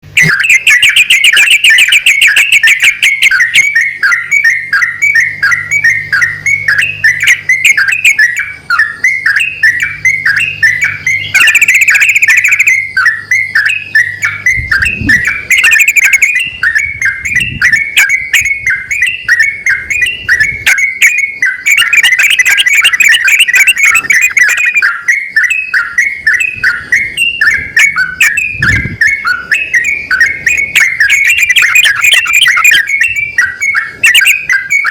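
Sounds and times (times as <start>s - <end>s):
birds chirping rapidly: 0.0s - 34.9s.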